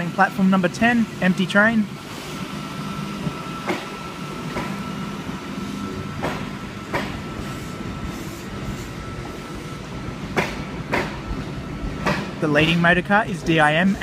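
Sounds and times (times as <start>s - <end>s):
electric train departing: 0.0s - 14.0s
steady high hum: 0.0s - 14.0s.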